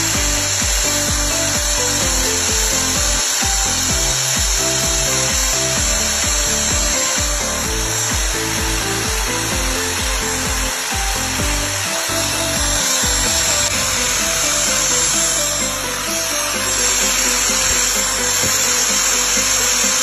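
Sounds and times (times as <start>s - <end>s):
background music with bass beat: 0.0s - 20.0s
grinding wheel on steel: 0.0s - 20.0s.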